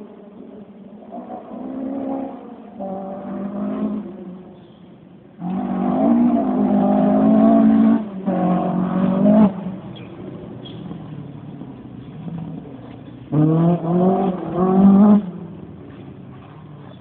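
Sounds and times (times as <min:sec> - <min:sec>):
rally car engine at full throttle: 0:00.0 - 0:17.0.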